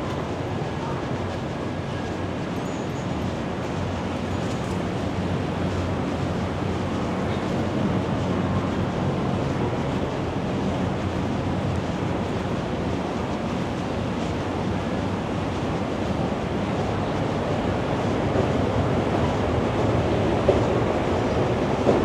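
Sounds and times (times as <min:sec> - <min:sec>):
busy city ambient noise: 0:00.0 - 0:22.0.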